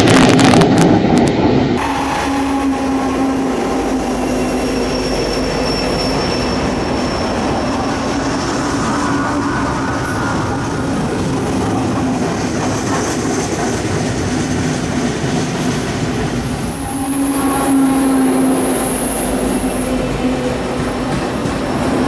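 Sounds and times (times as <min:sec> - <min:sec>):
railcars rumbling on rails: 0:00.0 - 0:22.0
steel wheels squealing: 0:01.8 - 0:14.6, 0:16.4 - 0:22.0.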